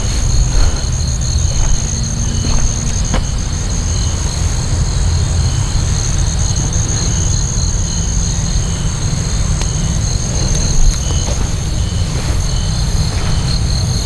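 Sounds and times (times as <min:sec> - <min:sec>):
insects chirring: 0:00.0 - 0:14.0
pulsing insect call: 0:00.0 - 0:14.0.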